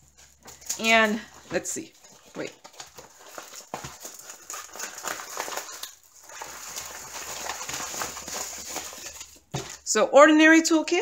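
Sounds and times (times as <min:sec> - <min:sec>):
canvas rustling and crinkling: 0:00.0 - 0:09.8.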